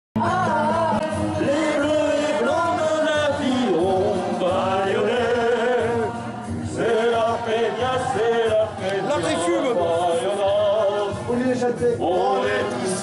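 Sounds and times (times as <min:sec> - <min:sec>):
backing music: 0:00.2 - 0:13.0
men singing karaoke: 0:00.2 - 0:13.0.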